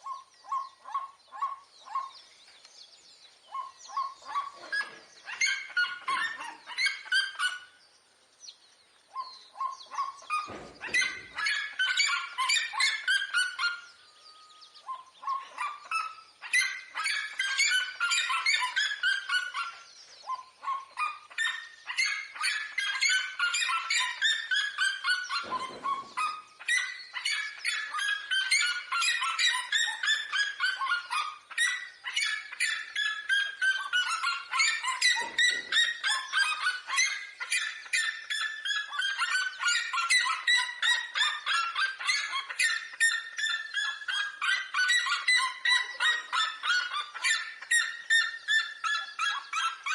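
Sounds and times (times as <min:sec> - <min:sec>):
birds yelping calls: 0:00.0 - 0:49.9.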